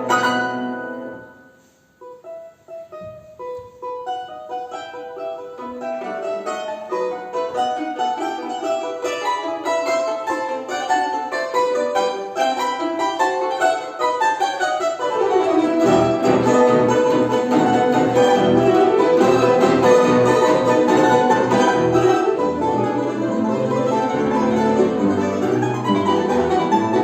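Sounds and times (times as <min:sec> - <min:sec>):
plucked string melody: 0:00.0 - 0:27.0.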